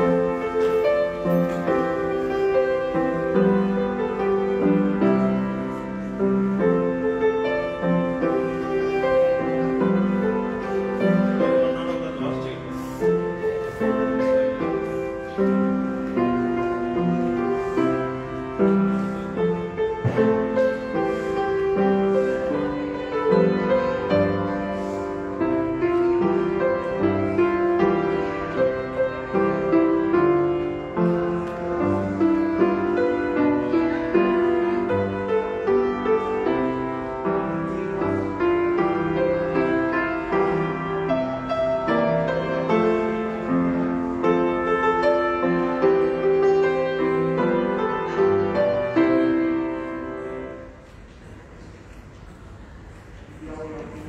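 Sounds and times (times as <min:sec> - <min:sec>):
grand piano playing chords: 0:00.0 - 0:54.0.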